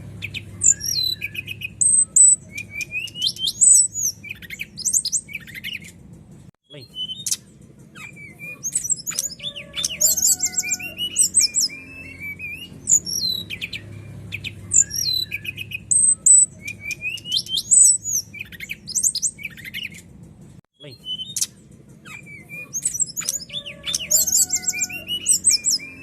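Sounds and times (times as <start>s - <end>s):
bird singing varied song: 0.0s - 20.2s, 20.8s - 26.0s.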